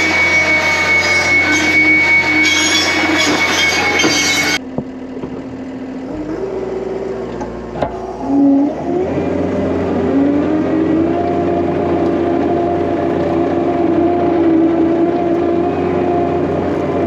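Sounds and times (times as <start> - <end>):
hydraulic cutter squealing whine: 0.0 - 4.6, 6.1 - 17.0
diesel engine running: 0.0 - 17.0.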